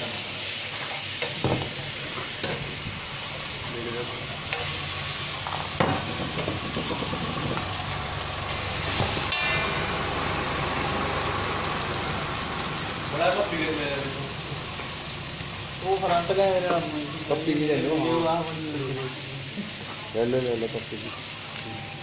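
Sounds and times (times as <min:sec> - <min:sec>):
potatoes sizzling in oil: 0:00.0 - 0:22.0.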